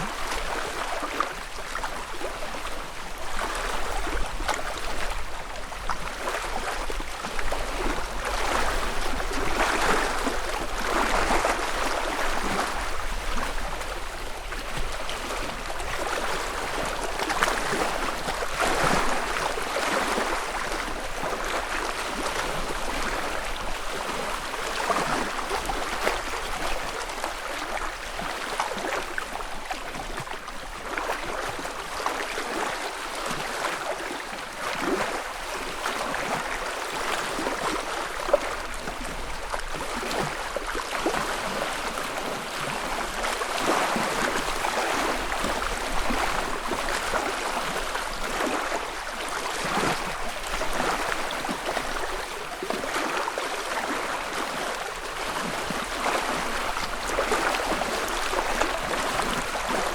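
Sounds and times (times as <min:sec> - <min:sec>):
small waves lapping at shore: 0:00.0 - 0:59.9.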